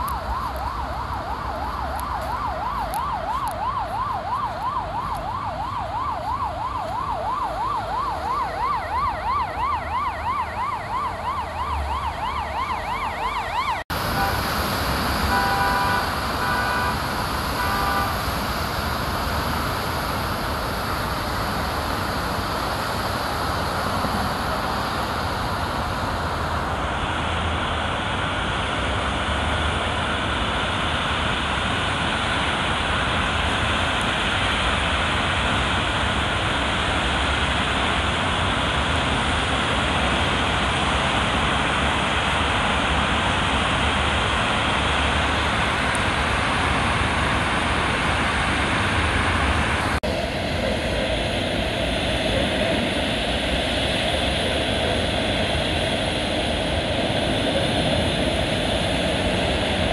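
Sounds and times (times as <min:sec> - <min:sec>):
heavy rain: 0:00.0 - 0:59.9
siren: 0:00.0 - 0:59.9
traffic swishing through water: 0:00.0 - 0:59.9.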